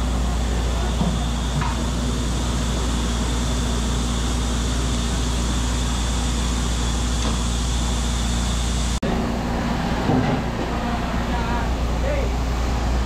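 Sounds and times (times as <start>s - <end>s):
stove blower rushing hum: 0.0s - 13.0s.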